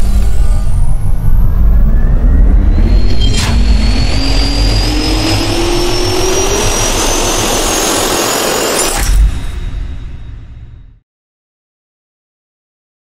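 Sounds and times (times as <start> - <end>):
jet turbine spooling up: 0.0 - 10.5.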